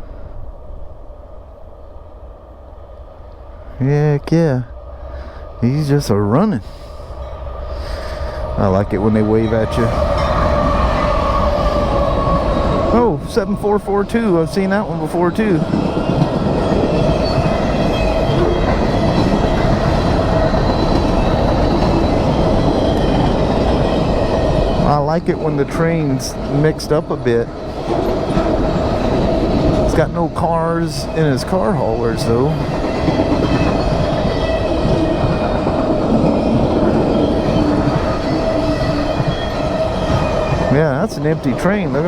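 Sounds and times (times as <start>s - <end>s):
freight train wheels rumbling: 0.0s - 42.0s.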